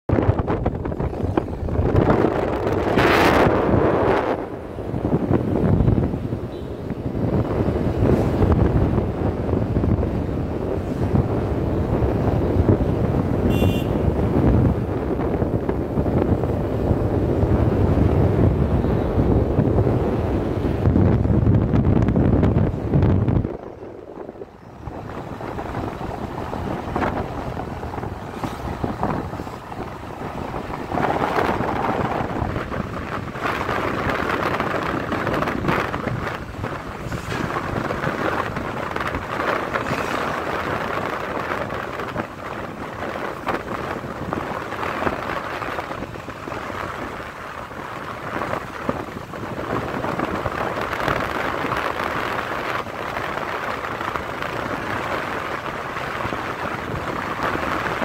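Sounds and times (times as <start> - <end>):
road and vehicle rumble: 0.0 - 58.0
wind rushing over microphone: 0.0 - 58.0.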